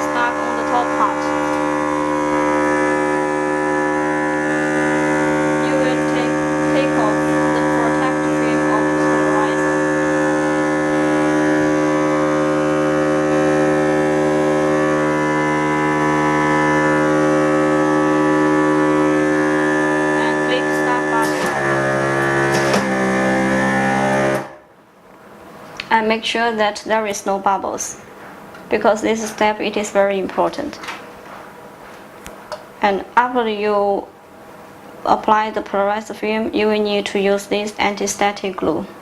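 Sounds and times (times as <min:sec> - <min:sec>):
vacuum pump humming: 0:00.0 - 0:39.0.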